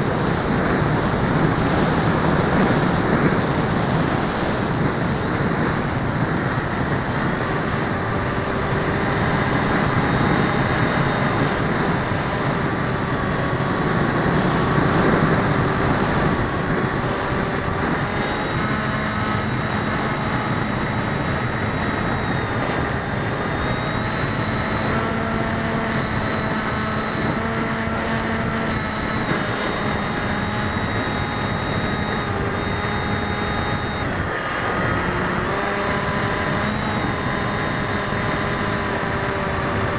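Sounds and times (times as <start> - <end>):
electric motors whining: 0.0 - 39.9
propeller wind rush: 0.0 - 39.9.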